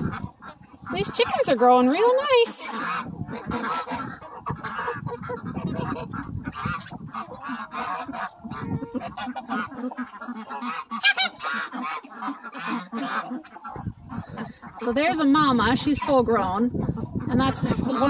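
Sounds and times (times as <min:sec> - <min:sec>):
chickens calling: 0:00.0 - 0:18.0
ducks quacking: 0:00.0 - 0:18.0
geese honking: 0:00.0 - 0:18.0.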